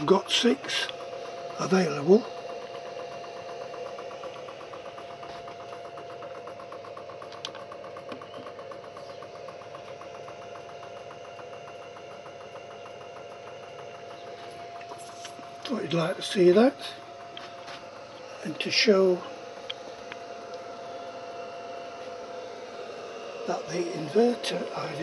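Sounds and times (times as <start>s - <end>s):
motor whirring hum: 0.0s - 25.0s
steady whine: 0.0s - 25.0s.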